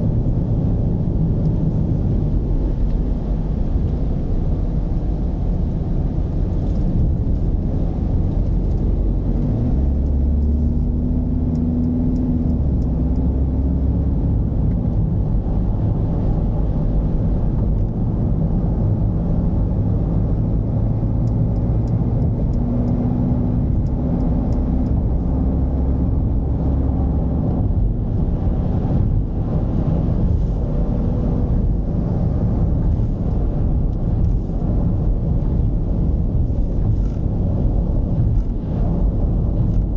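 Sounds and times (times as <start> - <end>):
diesel van engine hum: 0.0 - 39.9
road rumble: 0.0 - 39.9.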